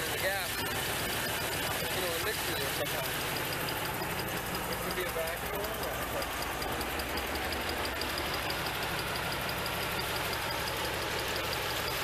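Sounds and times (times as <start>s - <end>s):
car engine running: 0.0s - 12.0s
faint high ticking: 0.8s - 12.0s.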